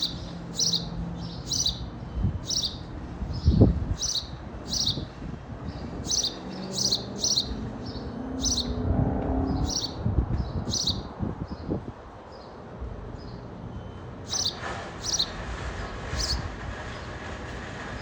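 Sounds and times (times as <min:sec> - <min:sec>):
sparrow chirping: 0:00.0 - 0:08.8, 0:09.5 - 0:12.6, 0:13.2 - 0:15.4, 0:16.1 - 0:16.5.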